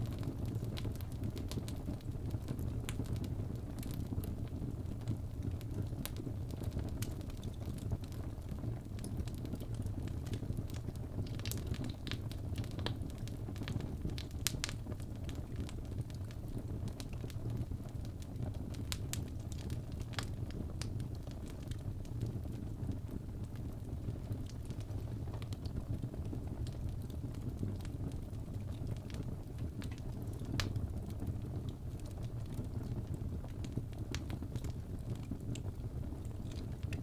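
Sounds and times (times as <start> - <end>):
fire crackles and pops: 0.0 - 37.0
fire low rumble: 0.0 - 37.0.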